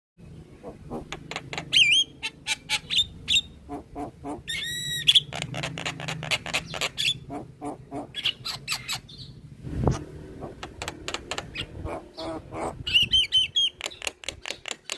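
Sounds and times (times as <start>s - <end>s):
bird chattering and whistling: 0.6s - 14.9s.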